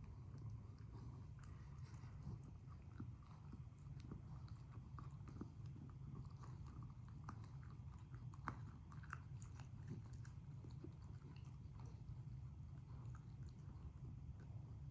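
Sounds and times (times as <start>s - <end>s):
low steady hum: 0.0s - 14.9s
dog chewing crunchy snack: 0.1s - 14.6s.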